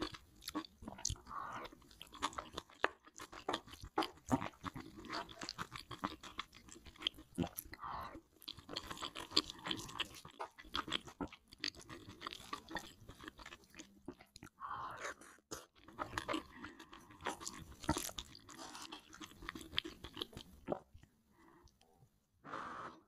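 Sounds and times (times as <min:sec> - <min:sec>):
chewing noodles: 0:00.0 - 0:21.9.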